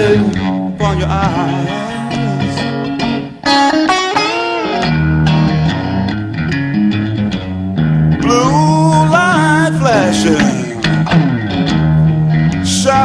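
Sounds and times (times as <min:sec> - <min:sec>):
bass line: 0:00.0 - 0:03.8, 0:04.8 - 0:13.0
electric guitar lead line: 0:00.0 - 0:13.0.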